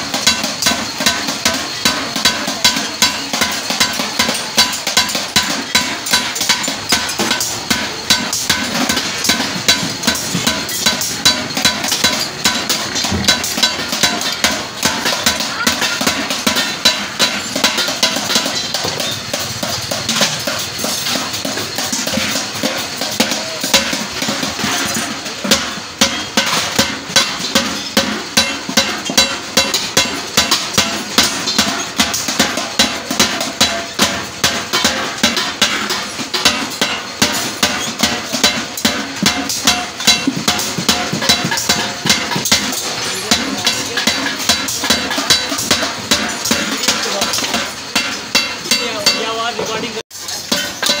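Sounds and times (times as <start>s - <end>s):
hammer striking steel bucket: 0.0s - 51.0s.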